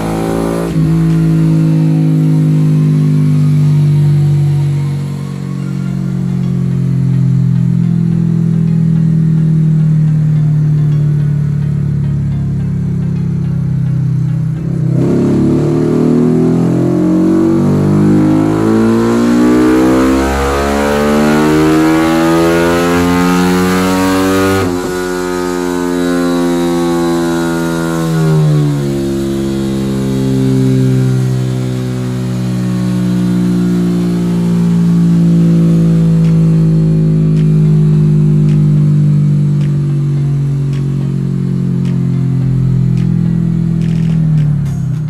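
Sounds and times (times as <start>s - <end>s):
motorcycle engine revving on a dyno: 0.0s - 12.0s, 13.6s - 44.7s.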